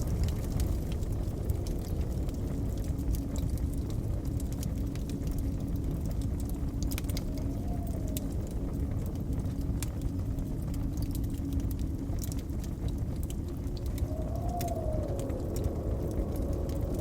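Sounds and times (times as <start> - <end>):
blizzard wind rumbling: 0.0 - 17.0
wind whistling: 0.0 - 17.0
wood fire crackling: 0.0 - 17.0.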